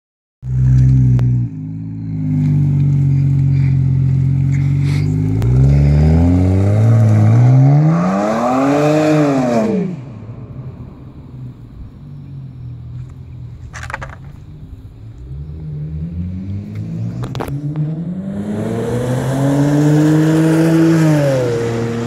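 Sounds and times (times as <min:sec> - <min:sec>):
car exhaust accelerating: 0:00.4 - 0:22.0.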